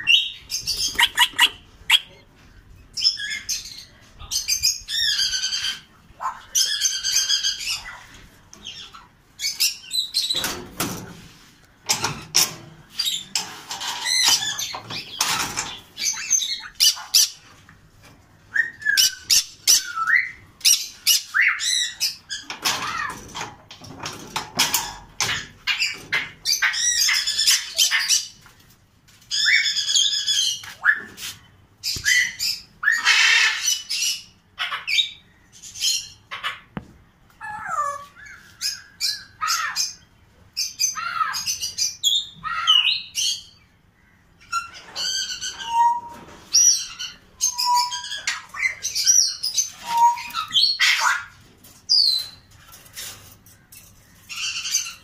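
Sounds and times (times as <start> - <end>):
birds squawking and chirping: 0.0 - 55.0.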